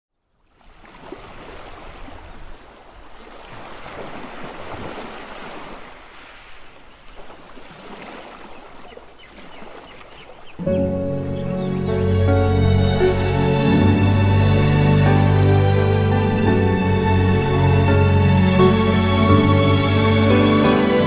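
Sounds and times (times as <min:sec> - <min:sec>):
sea water splashing: 0:00.5 - 0:21.0.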